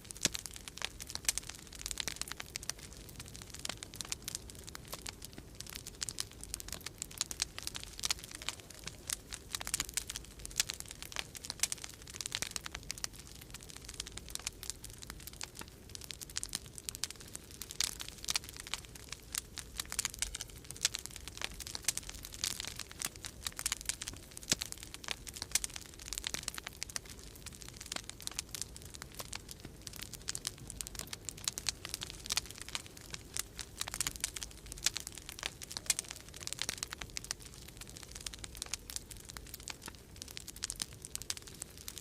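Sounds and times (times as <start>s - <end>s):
low rumble of storm wind: 0.0s - 42.0s
wood fire crackling: 0.0s - 42.0s.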